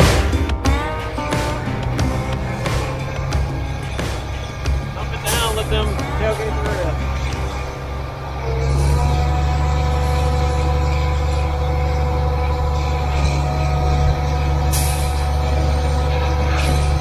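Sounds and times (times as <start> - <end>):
pump truck engine drone: 0.0 - 17.0
steady whining tones: 0.0 - 17.0.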